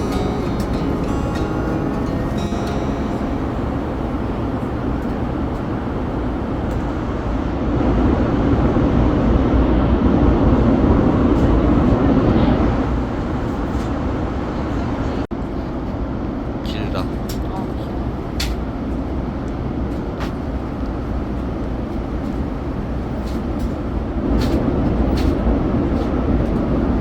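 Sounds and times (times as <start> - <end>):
airliner cabin rumble: 0.0 - 15.9, 19.8 - 27.0.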